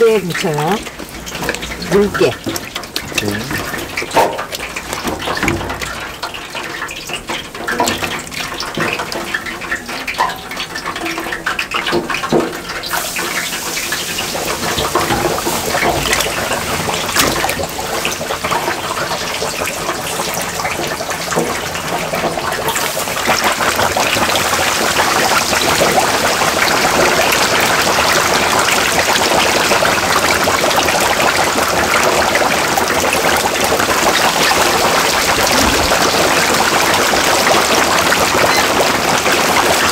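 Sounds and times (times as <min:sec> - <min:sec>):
chicken deep-frying in hot oil: 0:00.0 - 0:39.9.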